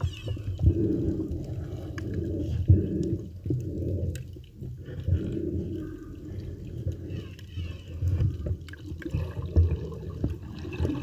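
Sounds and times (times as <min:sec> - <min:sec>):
muffled underwater churning: 0:00.0 - 0:11.0.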